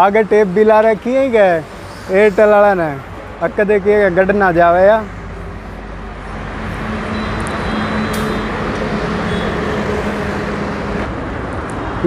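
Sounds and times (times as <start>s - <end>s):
vehicle passing: 1.3s - 12.0s.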